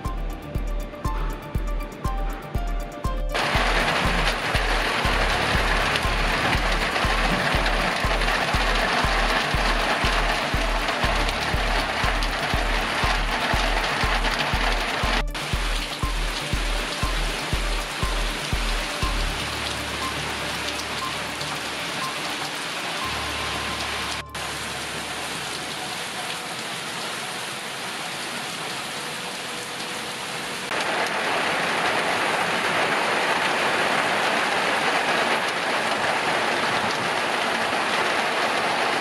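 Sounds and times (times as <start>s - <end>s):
heavy rain on pavement: 3.4s - 39.0s.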